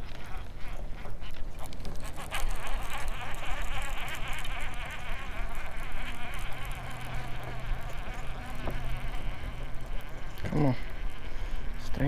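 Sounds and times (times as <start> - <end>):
fishing reel whirring: 0.0 - 12.0
low steady hum: 0.0 - 12.0.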